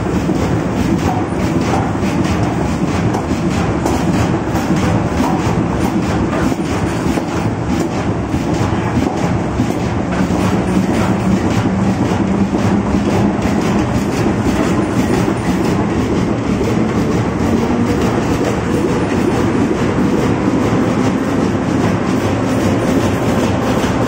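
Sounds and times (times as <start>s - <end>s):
die-cutting machine clattering: 0.0s - 24.0s.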